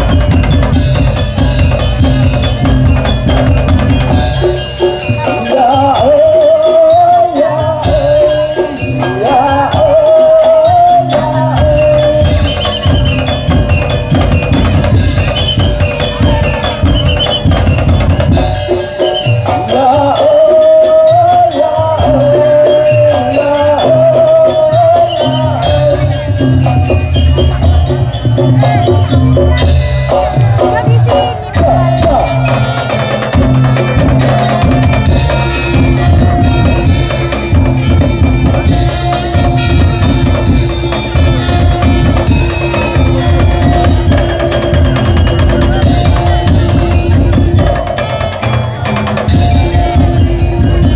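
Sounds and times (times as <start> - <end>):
heavy bass: 0.0 - 18.9, 19.8 - 50.9
percussion ensemble drumming: 0.0 - 50.9
wavering melody line: 0.0 - 50.9.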